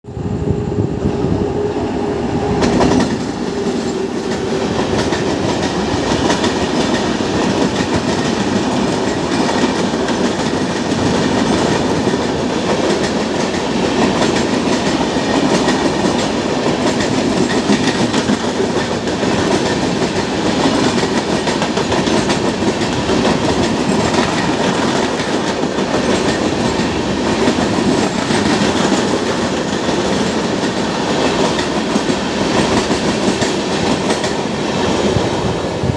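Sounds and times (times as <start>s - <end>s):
train wheels on rails: 0.0s - 35.9s.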